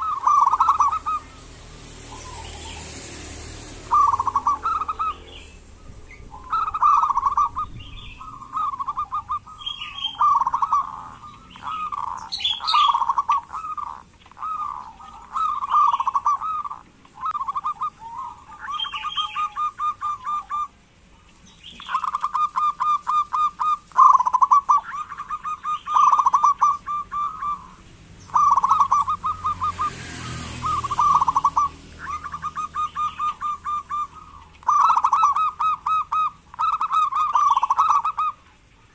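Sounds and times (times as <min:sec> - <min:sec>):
dove calling: 0:00.0 - 0:38.9.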